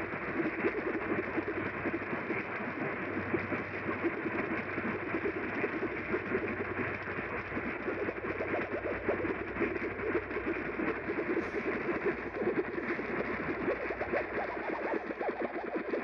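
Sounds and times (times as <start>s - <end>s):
radio static hiss and crackle: 0.0s - 16.0s.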